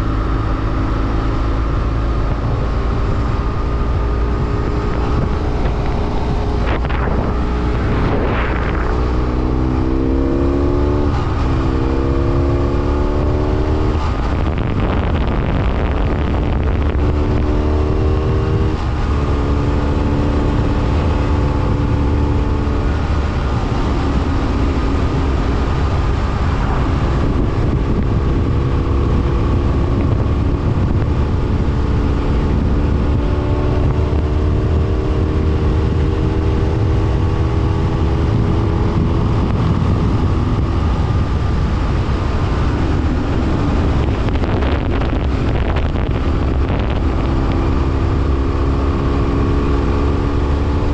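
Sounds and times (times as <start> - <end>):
motorcycle engine running: 0.0 - 50.9
wind rumble: 0.0 - 50.9.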